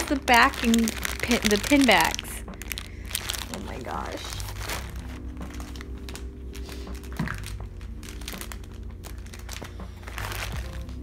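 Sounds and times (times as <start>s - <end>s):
background music with steady beat: 0.0s - 11.0s
plastic bags crinkling: 0.0s - 11.0s.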